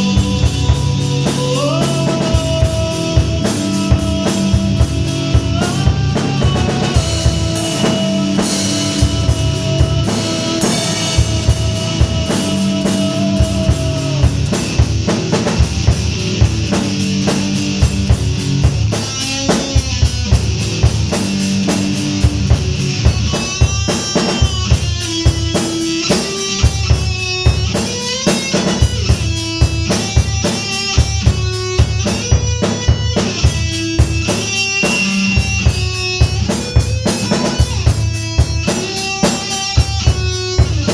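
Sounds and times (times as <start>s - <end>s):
bending lead guitar line: 0.0s - 40.9s
distorted electric guitars: 0.0s - 40.9s
metal song: 0.0s - 40.9s.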